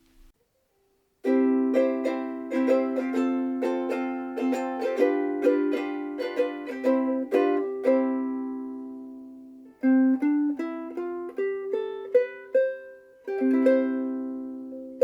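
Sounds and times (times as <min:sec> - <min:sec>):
ukulele playing: 0:01.2 - 0:15.0.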